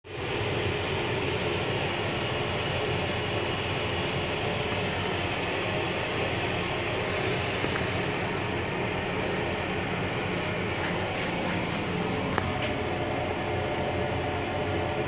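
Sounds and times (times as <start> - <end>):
train car rumble and hiss: 0.0 - 15.0.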